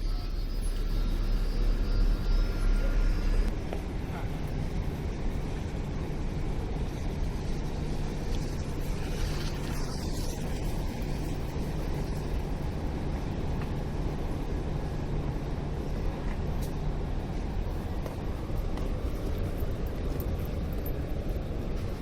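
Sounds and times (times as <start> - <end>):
road traffic hum: 0.0 - 22.0.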